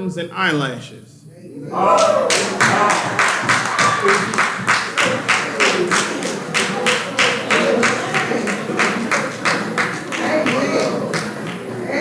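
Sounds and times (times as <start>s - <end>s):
congregation clapping rhythmically: 1.9s - 12.0s.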